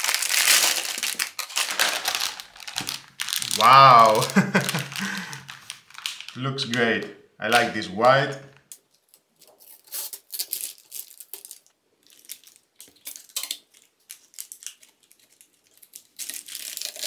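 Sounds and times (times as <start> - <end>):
plastic bag crinkling: 0.0 - 6.8, 9.0 - 17.0.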